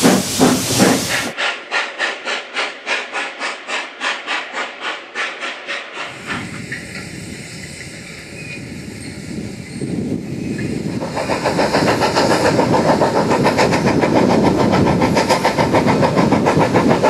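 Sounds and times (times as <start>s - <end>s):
distant train rumble with hiss: 0.0s - 17.0s
steam locomotive chuffing: 0.0s - 17.0s.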